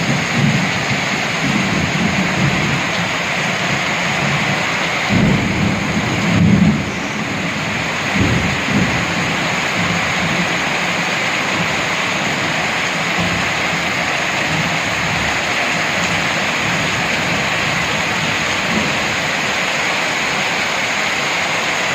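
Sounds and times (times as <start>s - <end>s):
thunder rumbling: 0.0s - 21.4s
heavy rain falling: 0.0s - 21.9s.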